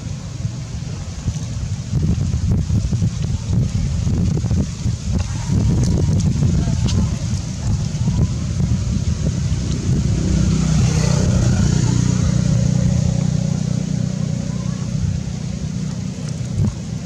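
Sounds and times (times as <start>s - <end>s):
vehicle engine rumbling past: 0.0s - 17.0s.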